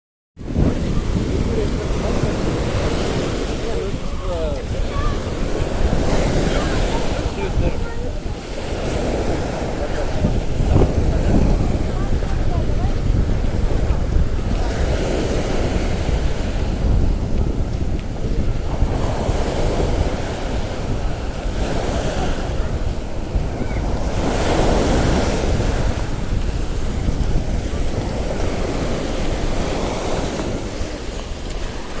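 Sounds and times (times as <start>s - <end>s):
surf washing onto beach: 0.4s - 32.0s
wind buffeting microphone: 0.4s - 32.0s.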